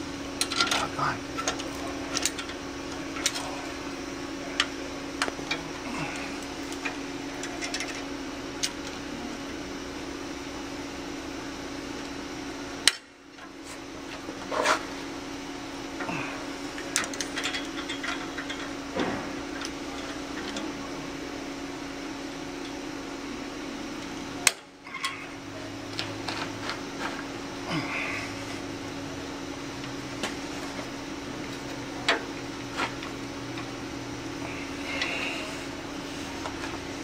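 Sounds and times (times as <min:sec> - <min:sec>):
ventilation hum: 0:00.0 - 0:37.0.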